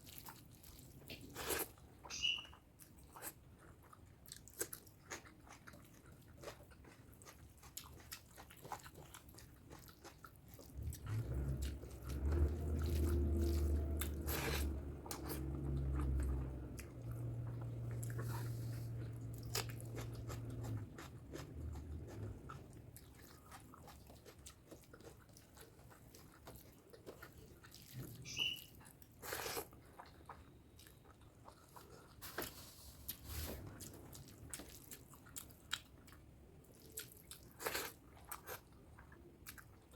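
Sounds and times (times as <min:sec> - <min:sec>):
chewing and lip smacks: 0:00.0 - 0:32.2, 0:33.1 - 0:39.9.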